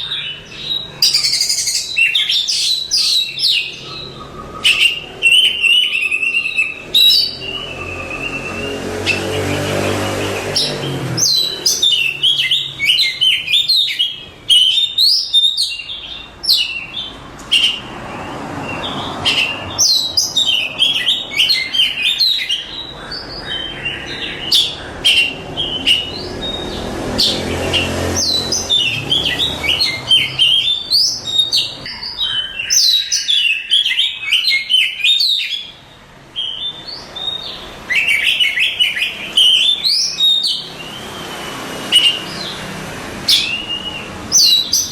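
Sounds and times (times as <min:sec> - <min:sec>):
bird singing whistles and trills: 0:00.0 - 0:17.9, 0:18.7 - 0:42.6, 0:43.3 - 0:44.9.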